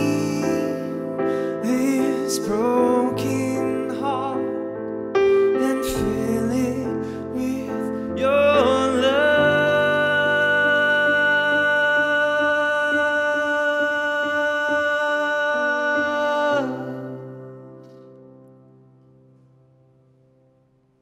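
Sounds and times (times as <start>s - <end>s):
electric piano chords: 0.0s - 21.0s.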